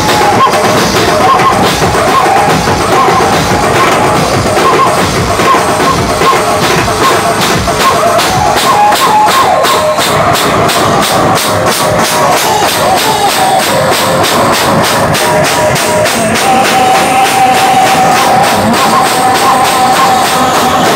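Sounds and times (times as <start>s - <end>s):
electronic drum pad beat: 0.0s - 20.9s.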